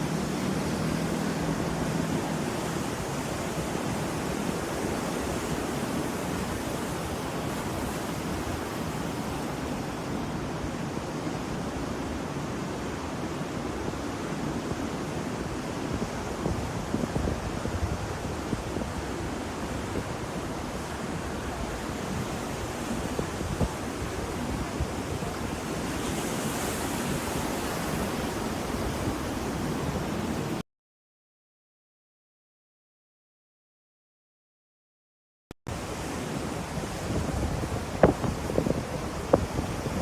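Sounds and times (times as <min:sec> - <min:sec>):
breaking ocean waves: 0:00.0 - 0:30.6, 0:35.7 - 0:40.0.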